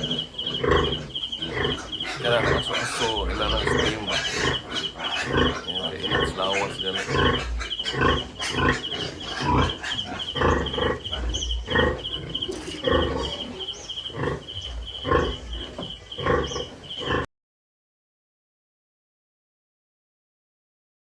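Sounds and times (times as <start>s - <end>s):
high pulsing chirp: 0.0s - 17.2s
pigs grunting: 0.0s - 17.3s.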